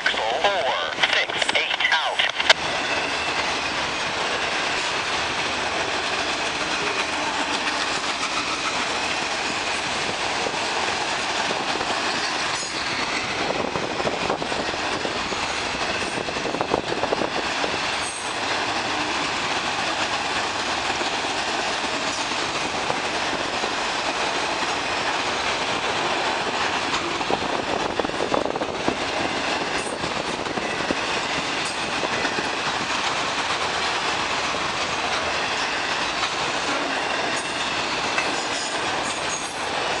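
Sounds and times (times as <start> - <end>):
steel wheels rumbling on rail: 0.0 - 40.0
clacks over rail joints: 3.2 - 40.0.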